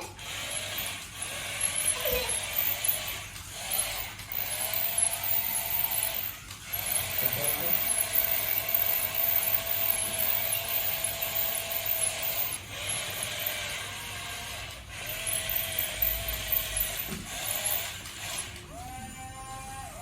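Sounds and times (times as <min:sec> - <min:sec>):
gritty gear noise: 0:00.0 - 0:18.8
toy electric motor whining: 0:00.0 - 0:20.0.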